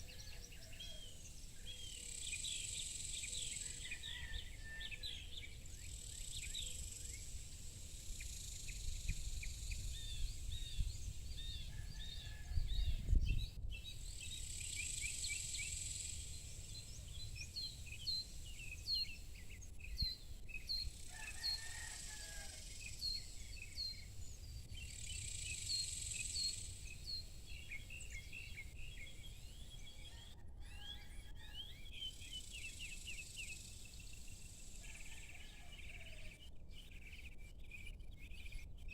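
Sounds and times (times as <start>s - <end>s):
small birds chirping: 5.0s - 38.9s.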